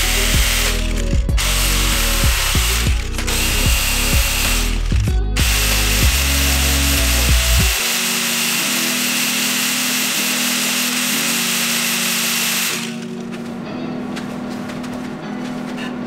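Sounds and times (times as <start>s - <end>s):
angle grinder grinding metal: 0.0s - 13.3s
background music: 0.0s - 16.0s.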